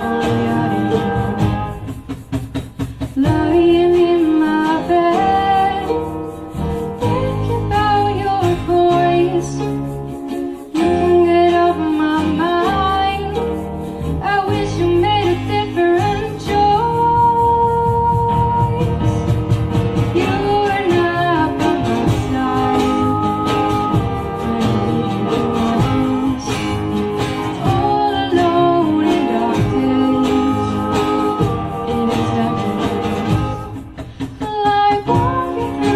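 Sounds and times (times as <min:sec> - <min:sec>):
woman singing: 0:00.0 - 0:02.2, 0:02.9 - 0:35.9
pop-rock song with guitar: 0:00.0 - 0:35.9.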